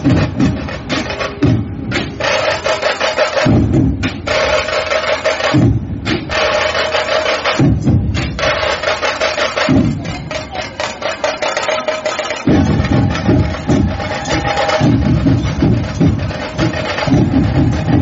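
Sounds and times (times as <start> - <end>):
fast dense drumming: 0.0 - 18.0.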